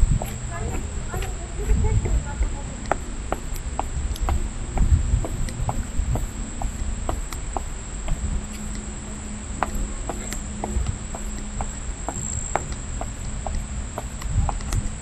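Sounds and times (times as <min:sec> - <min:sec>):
crickets trilling: 0:00.0 - 0:15.0
footsteps on outdoor steps: 0:00.0 - 0:15.0.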